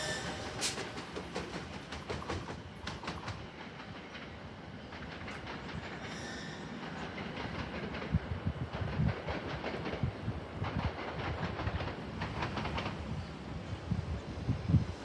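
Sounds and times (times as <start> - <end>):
train wheels clattering on rails: 0.0 - 13.4.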